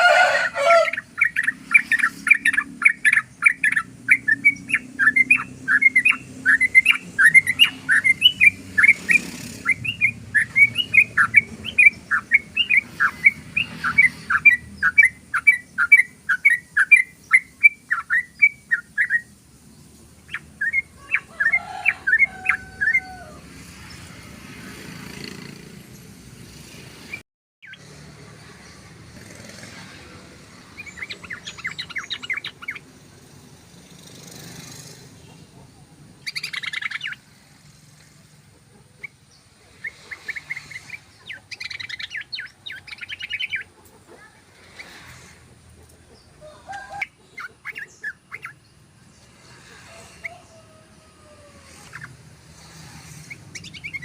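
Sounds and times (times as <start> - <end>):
bulbul chirping song: 0.0 - 24.2, 27.1 - 44.0, 45.8 - 50.7, 51.6 - 54.0.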